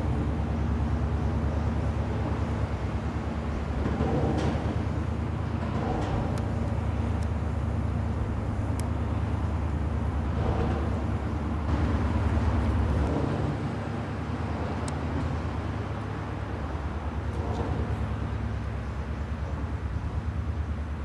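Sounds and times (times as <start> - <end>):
ship diesel engine throbbing: 0.0 - 21.0
water rushing from bow wave: 0.0 - 21.0.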